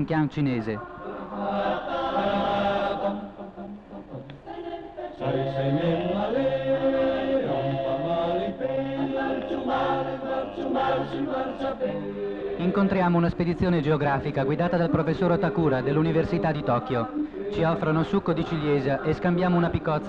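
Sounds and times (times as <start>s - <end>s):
choir singing slow chant: 0.8s - 20.0s.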